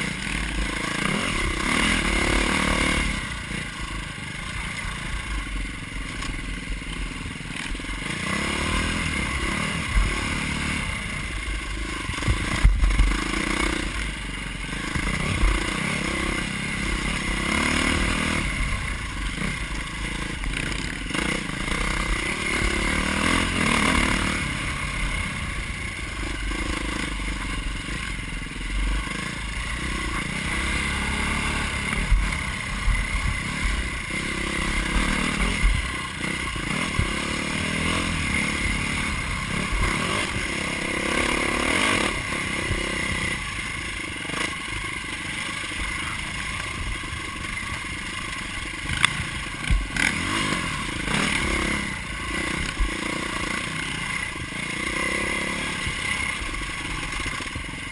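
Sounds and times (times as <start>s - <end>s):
dirt bike engine: 0.0s - 57.9s.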